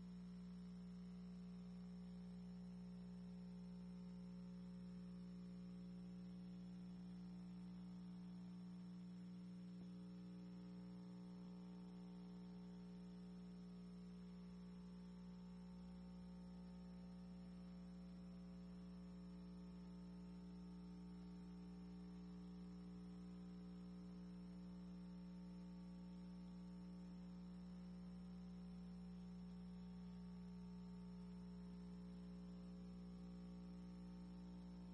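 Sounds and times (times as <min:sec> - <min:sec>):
faint electrical hum: 0:00.0 - 0:34.9.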